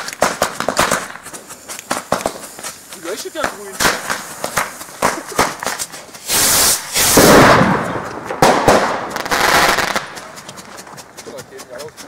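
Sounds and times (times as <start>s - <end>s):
fireworks crackling pops: 0.0s - 10.7s
fireworks sharp cracks: 0.0s - 11.1s
fireworks hissing rush: 0.0s - 11.3s.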